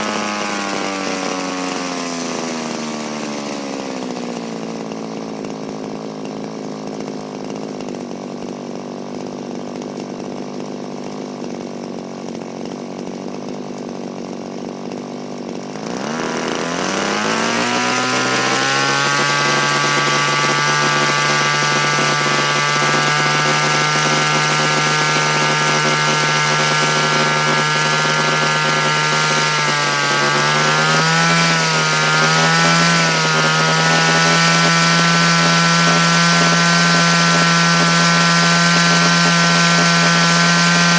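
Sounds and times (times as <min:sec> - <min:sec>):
small two-stroke engine running: 0:00.0 - 0:40.9.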